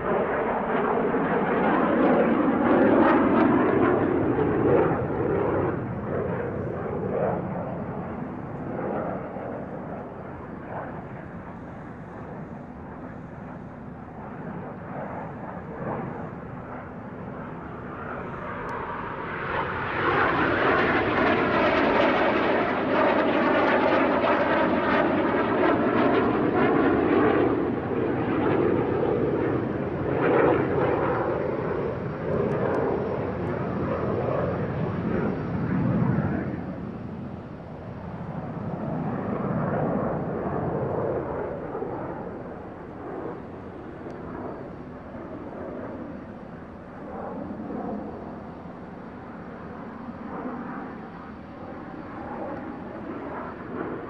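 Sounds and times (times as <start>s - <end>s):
jet engines roaring in low pass: 0.0s - 54.0s.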